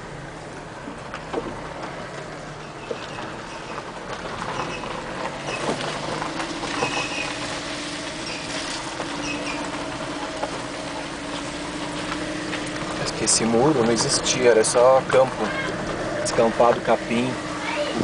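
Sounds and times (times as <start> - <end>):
car engine drone: 0.0 - 18.0
tyre and road noise: 0.0 - 18.0.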